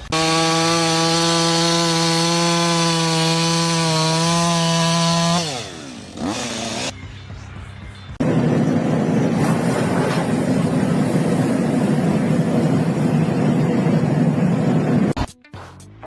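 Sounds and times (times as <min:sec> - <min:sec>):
chainsaw running: 0:00.0 - 0:07.0, 0:08.2 - 0:15.1.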